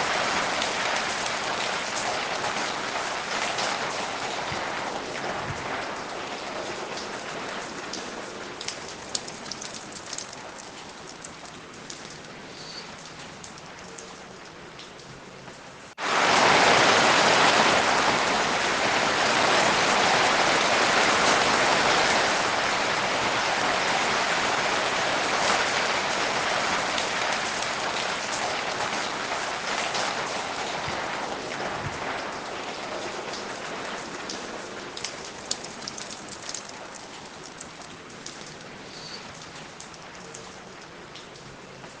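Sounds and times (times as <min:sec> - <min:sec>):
rain falling: 0:00.0 - 0:42.0.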